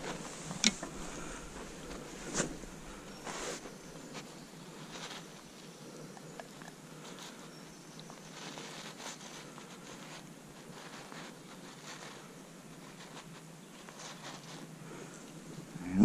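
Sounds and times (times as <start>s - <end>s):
rustling of net mesh: 0.0s - 5.6s, 7.0s - 16.0s
faint steady hiss: 0.0s - 16.0s.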